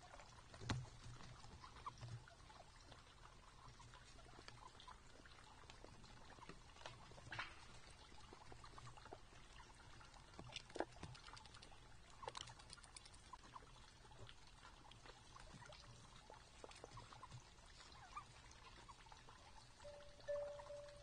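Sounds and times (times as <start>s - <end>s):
deer feeding clicks and crunches: 0.0s - 19.8s.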